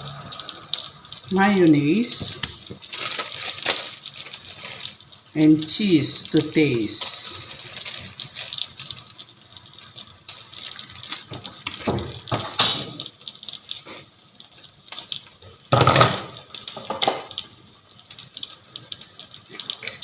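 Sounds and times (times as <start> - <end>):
kitchen clicks and rustles: 0.4 - 20.0.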